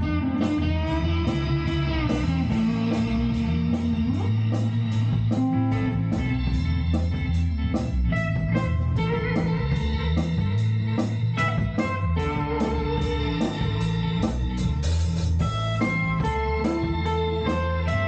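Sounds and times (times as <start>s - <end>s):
band playing instrumental music: 0.0s - 18.0s
electric guitar: 0.0s - 18.0s.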